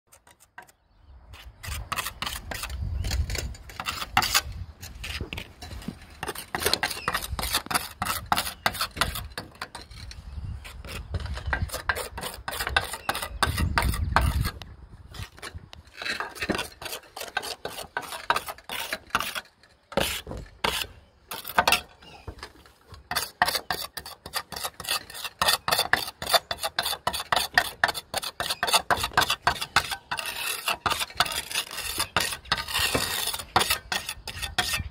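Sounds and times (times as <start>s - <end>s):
trowel scraping: 0.1s - 34.9s.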